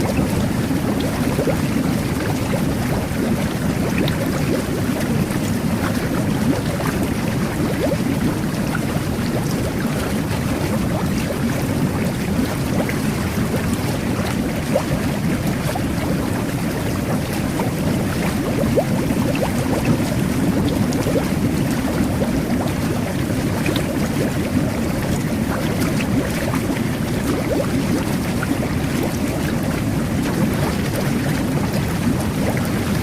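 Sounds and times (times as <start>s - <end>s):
bubbles crackling: 0.0s - 33.0s
jet bath water churning: 0.0s - 33.0s.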